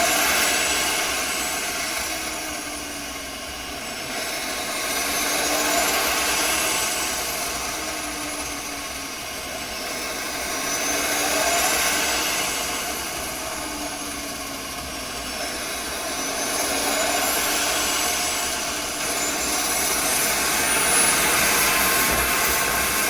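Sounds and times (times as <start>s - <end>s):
turbochargers spooling whistle: 0.0s - 23.0s.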